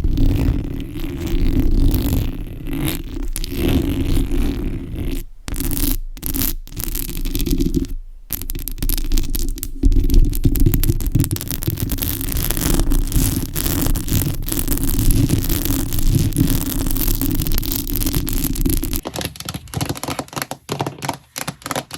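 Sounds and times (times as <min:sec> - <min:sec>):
fingernails scratching a surface: 0:00.0 - 0:09.6, 0:10.8 - 0:19.0.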